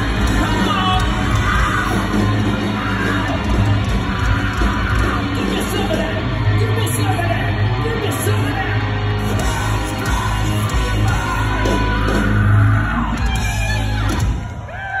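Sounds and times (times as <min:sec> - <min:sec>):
live hard rock band: 0:00.0 - 0:15.0
people yelling: 0:00.0 - 0:15.0.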